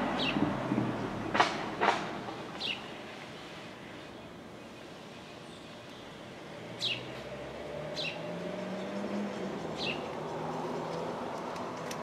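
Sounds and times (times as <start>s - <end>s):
distant city hum: 0.0s - 12.0s.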